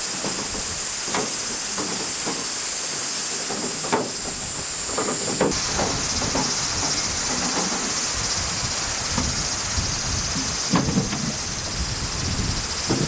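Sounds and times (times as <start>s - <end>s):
cicadas chorusing: 0.0s - 13.0s.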